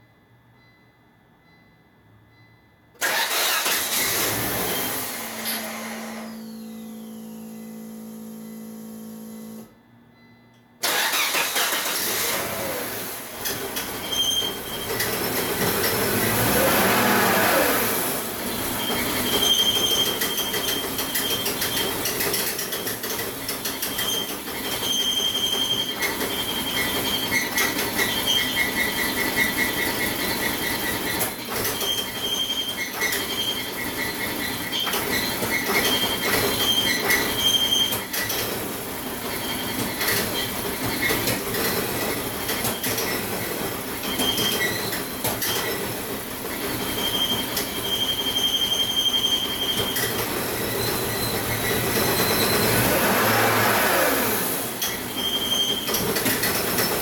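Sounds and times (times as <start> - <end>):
car engine starting and running: 3.0 - 9.7, 10.8 - 57.0.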